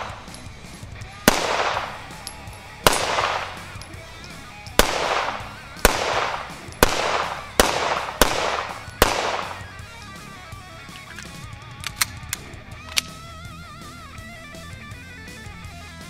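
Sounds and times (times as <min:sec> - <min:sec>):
pistol shots echoing: 0:00.0 - 0:13.2
music: 0:00.0 - 0:16.0.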